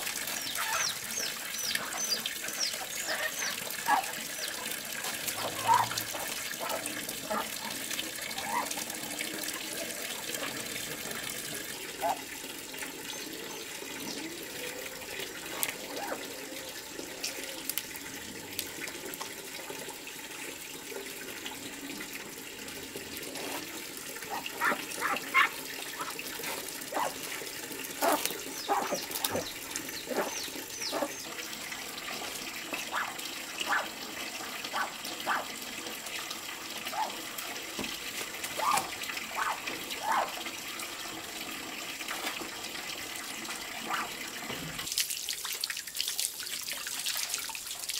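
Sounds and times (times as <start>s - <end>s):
tap water running into basin: 0.0s - 47.9s.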